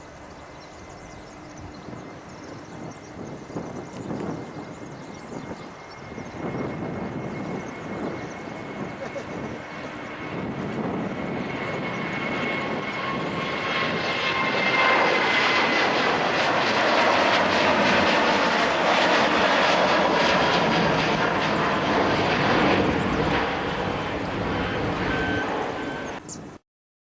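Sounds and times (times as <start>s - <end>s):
jet engines roaring: 0.0s - 26.6s.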